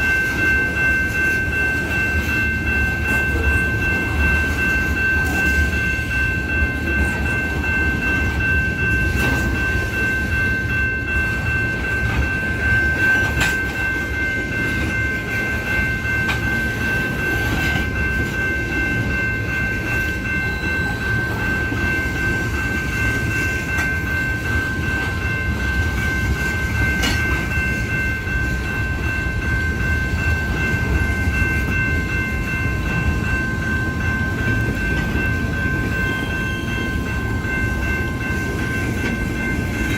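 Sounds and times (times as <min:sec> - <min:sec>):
freight train rumbling: 0:00.0 - 0:39.9
high-pitched ring: 0:00.0 - 0:39.9.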